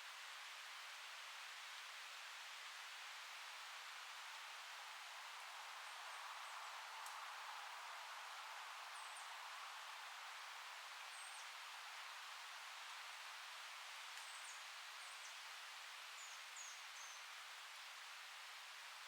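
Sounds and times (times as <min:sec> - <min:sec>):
wind rustling tree leaves: 0:00.0 - 0:19.0.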